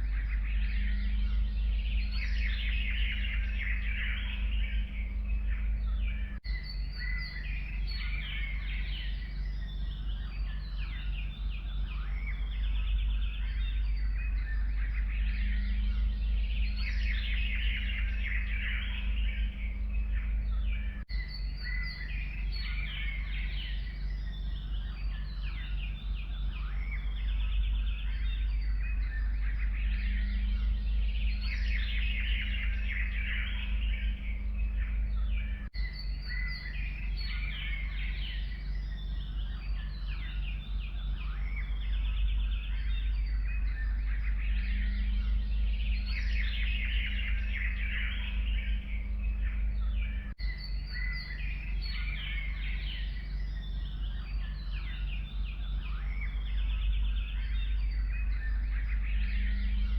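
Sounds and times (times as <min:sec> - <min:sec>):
low rumble: 0:00.0 - 0:59.9
songbirds chirping and singing: 0:00.0 - 0:59.9.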